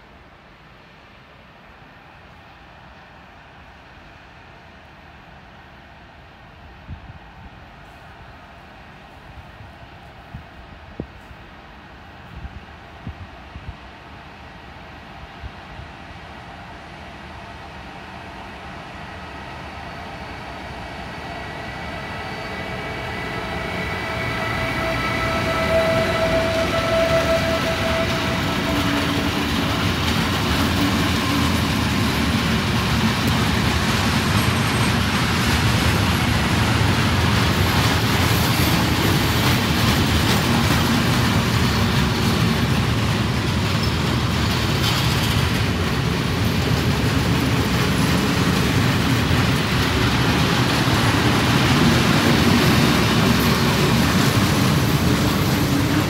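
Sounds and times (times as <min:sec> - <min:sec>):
electric locomotive whine: 0:06.6 - 0:56.0.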